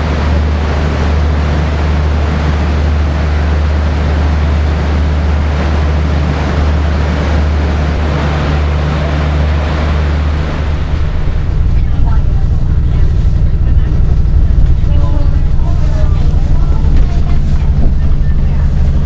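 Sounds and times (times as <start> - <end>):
train low hum: 0.0 - 19.0
train rushing noise: 0.0 - 19.0.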